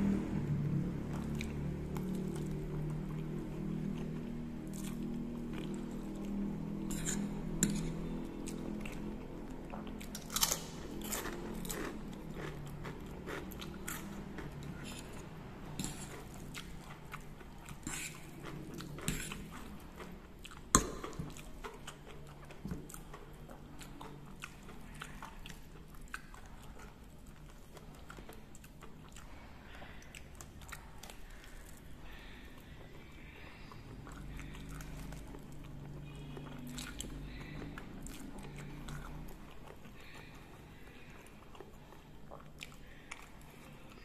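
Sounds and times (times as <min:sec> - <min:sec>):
soft chewing of noodles: 0:00.0 - 0:44.0.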